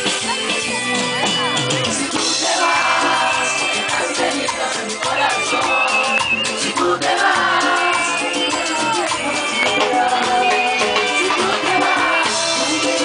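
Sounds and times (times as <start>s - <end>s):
drums: 0.0s - 13.0s
shaker-like percussion: 0.0s - 13.0s
person singing into a microphone: 1.9s - 13.0s.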